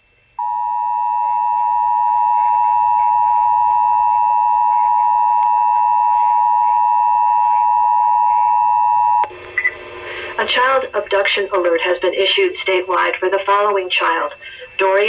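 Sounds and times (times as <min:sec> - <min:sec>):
steady alarm tone: 0:00.4 - 0:15.0.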